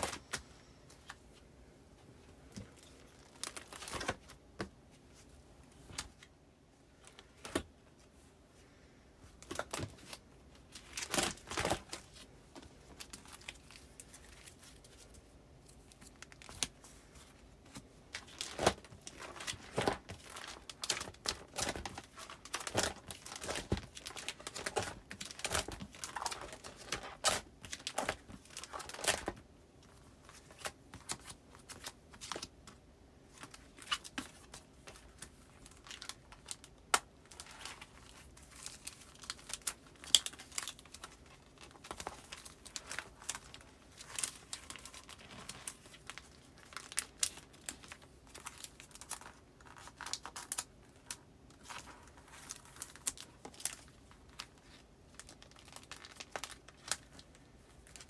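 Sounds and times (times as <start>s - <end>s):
plastic and paper crinkling: 2.3s - 6.3s, 9.2s - 58.0s.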